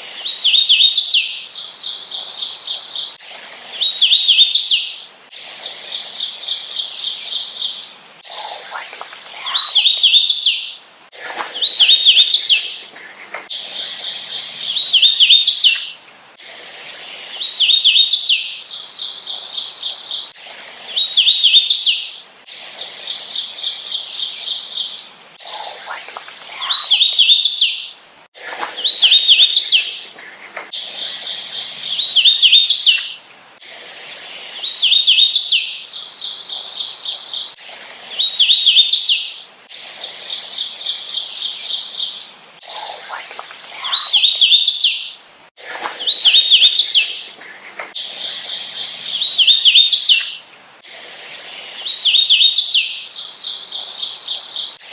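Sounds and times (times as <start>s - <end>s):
warbler singing whistled phrases: 0.0s - 5.1s, 5.7s - 16.0s, 17.2s - 22.2s, 22.8s - 28.0s, 28.7s - 30.1s, 30.8s - 33.2s, 34.5s - 39.5s, 40.3s - 45.2s, 46.0s - 47.4s, 48.0s - 50.5s, 51.6s - 54.9s
background hiss: 0.0s - 54.9s.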